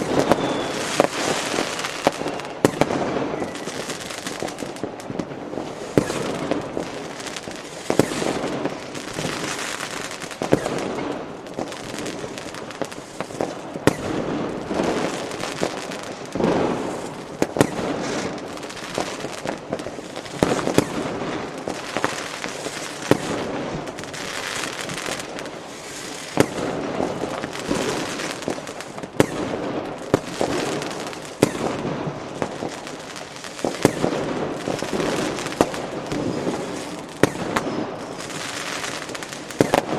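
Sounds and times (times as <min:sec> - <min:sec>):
fireworks crackling and popping: 0:00.0 - 0:39.9
loud firecracker bangs: 0:00.0 - 0:39.9.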